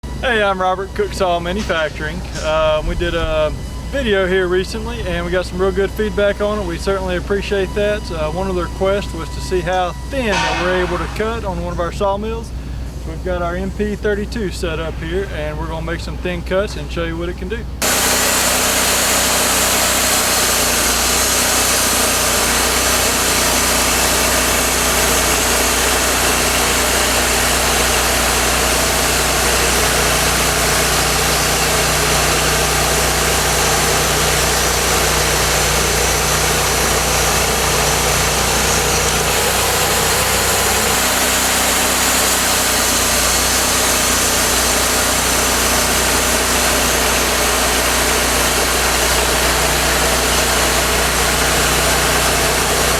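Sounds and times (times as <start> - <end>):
bandsaw mill running: 0.0 - 52.9.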